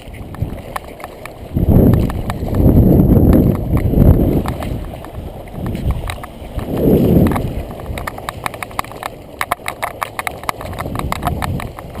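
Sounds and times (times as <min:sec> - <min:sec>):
wind rumble on microphone: 0:00.0 - 0:12.0
camera rig clicks and taps: 0:00.2 - 0:02.5, 0:03.3 - 0:12.0.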